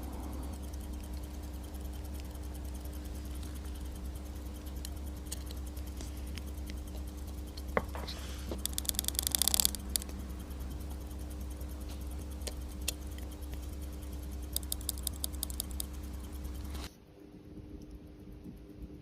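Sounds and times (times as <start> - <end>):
low steady hum: 0.0 - 19.0
sharp ticks: 0.0 - 19.0
clicks of small watch parts: 0.7 - 11.0, 11.7 - 16.9.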